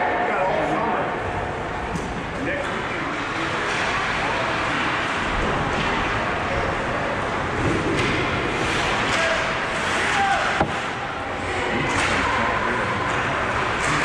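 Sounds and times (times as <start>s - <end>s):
voices in arena: 0.0s - 14.0s.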